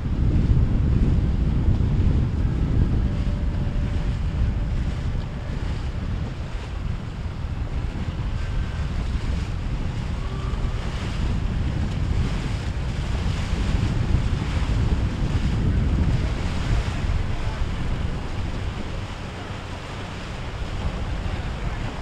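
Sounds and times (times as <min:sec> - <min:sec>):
boat motors: 0:00.0 - 0:22.0
surf: 0:00.0 - 0:22.0
wind buffeting microphone: 0:00.0 - 0:22.0.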